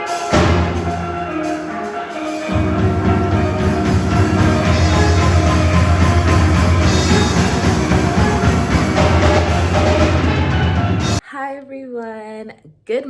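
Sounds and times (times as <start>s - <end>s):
music with heavy bass and drums: 0.0s - 11.2s.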